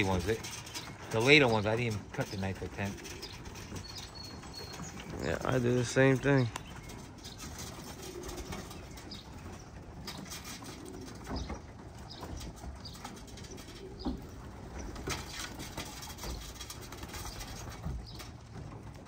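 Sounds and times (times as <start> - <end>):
pigeons chirping: 0.0 - 19.0
pigeons tapping and scuffing: 0.0 - 19.0.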